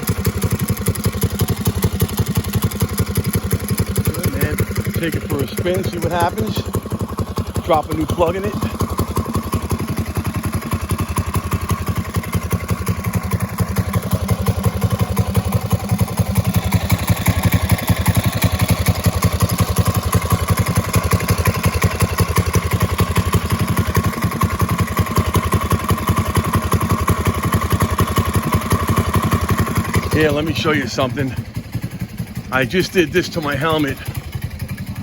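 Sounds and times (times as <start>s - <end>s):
small engine idling: 0.0s - 35.0s.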